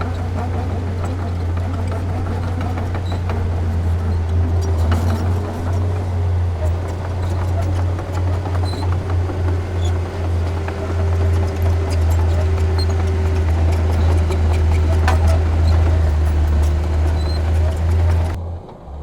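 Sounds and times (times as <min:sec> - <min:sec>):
clanks and knocks: 0:00.0 - 0:18.4
diesel machinery engine rumble: 0:00.0 - 0:18.4.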